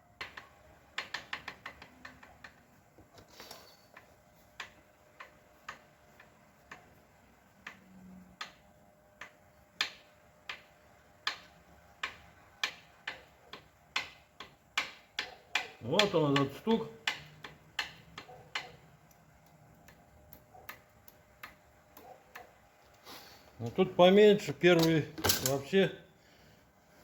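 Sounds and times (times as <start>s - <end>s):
piston knocking metallic clicks: 0.2s - 3.3s, 3.9s - 22.6s, 24.6s - 25.7s.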